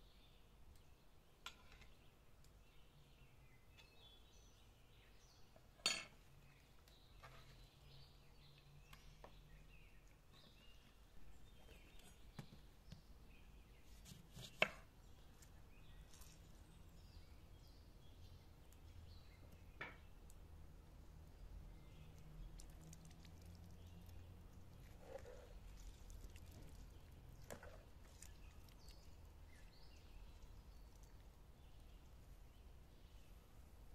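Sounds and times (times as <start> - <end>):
faint birds chirping: 0.0 - 33.9.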